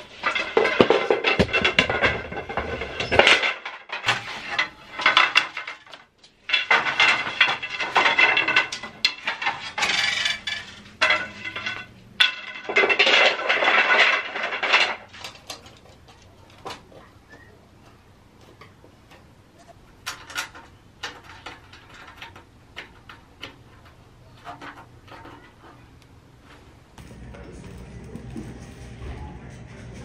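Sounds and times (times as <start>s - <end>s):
metal bed frame clattering: 0.0s - 16.9s, 17.8s - 25.8s.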